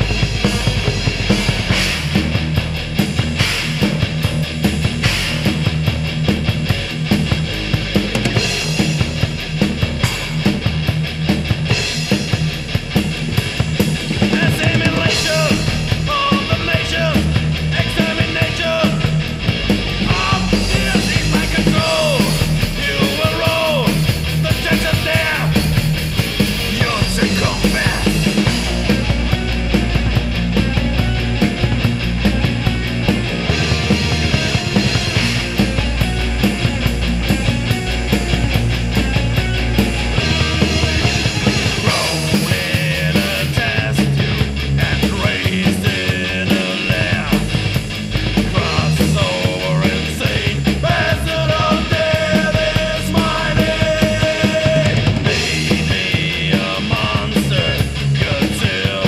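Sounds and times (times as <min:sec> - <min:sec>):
distorted guitars: 0:00.0 - 0:59.0
fast drumming: 0:00.0 - 0:59.0
sliding lead guitar line: 0:00.0 - 0:59.0.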